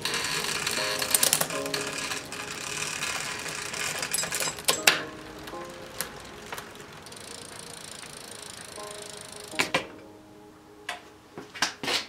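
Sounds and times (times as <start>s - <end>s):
bicycle wheel whirring: 0.0s - 9.7s
hub ticking: 0.0s - 9.7s.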